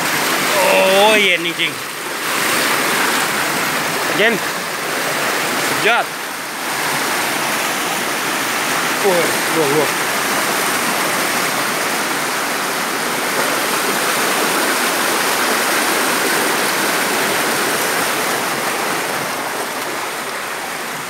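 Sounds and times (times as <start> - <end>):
white water rushing over rocks: 0.0 - 21.0.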